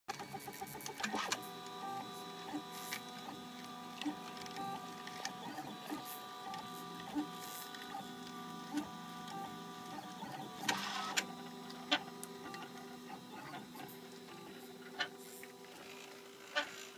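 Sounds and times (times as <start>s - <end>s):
printer stepper motors whining: 0.1s - 16.9s.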